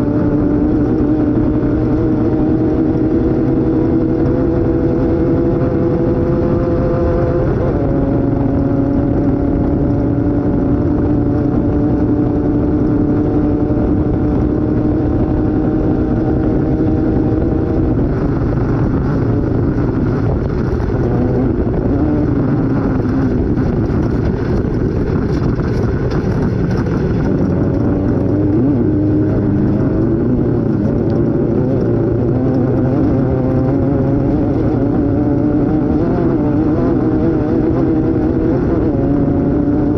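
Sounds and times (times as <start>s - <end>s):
off-road engine revving: 0.0s - 39.9s
rumble and rattle on rough ground: 0.0s - 39.9s.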